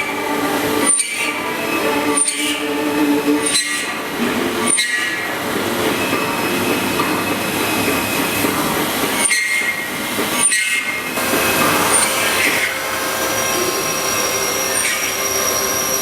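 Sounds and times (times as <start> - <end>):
milling machine cutting and squealing: 0.0 - 16.0.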